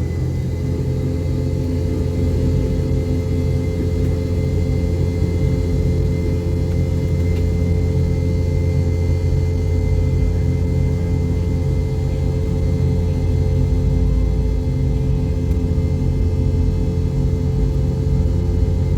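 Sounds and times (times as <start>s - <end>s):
jet engine cabin rumble: 0.0s - 18.9s.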